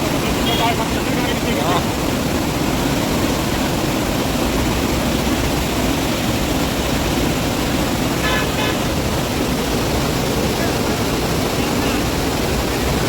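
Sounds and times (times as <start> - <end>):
heavy rainfall: 0.0 - 13.0.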